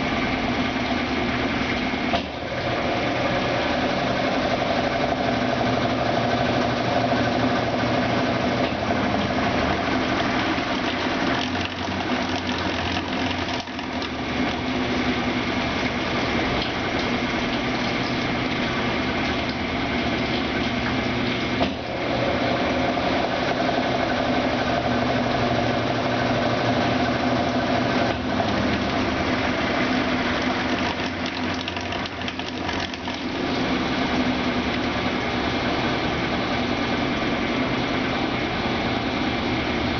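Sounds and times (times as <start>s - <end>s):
washing machine whirring hum: 0.0s - 39.9s.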